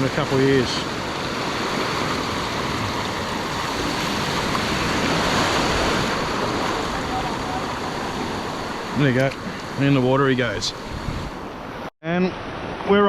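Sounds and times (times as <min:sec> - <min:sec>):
ocean surf on rocks: 0:00.0 - 0:13.0.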